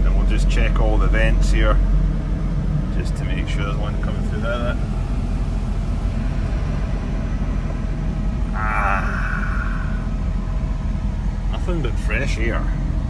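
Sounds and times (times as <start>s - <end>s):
air rushing from dash vent: 0.0s - 13.0s.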